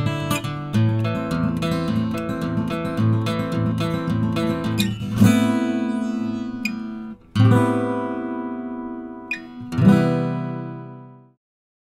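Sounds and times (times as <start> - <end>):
acoustic guitar strummed chords: 0.0 - 11.3.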